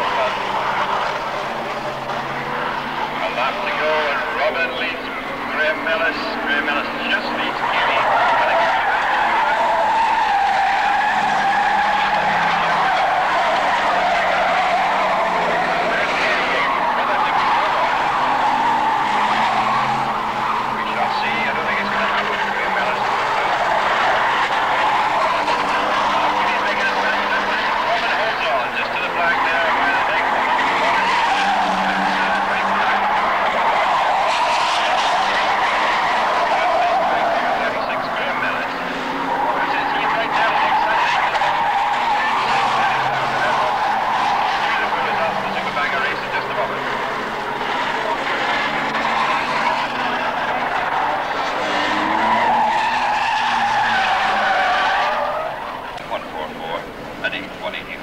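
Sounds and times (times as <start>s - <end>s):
racing car engines running hard: 0.0s - 58.0s.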